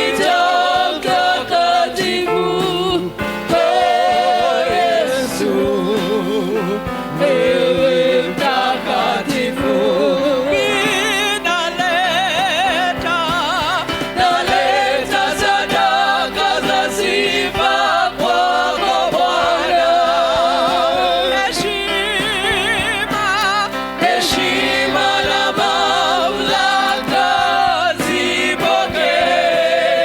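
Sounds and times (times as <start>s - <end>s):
gospel choir singing: 0.0s - 30.0s
held instrumental backing: 0.0s - 30.0s.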